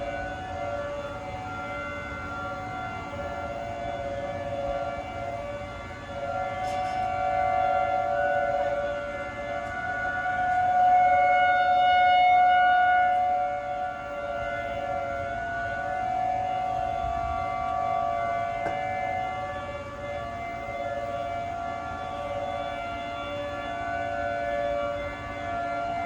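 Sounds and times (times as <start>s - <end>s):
warning siren chord: 0.0s - 26.0s.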